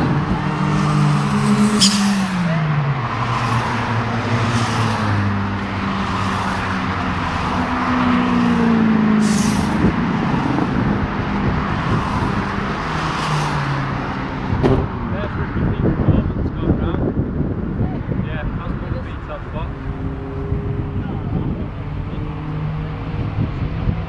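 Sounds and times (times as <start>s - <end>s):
cars driving past at speed: 0.0s - 24.0s.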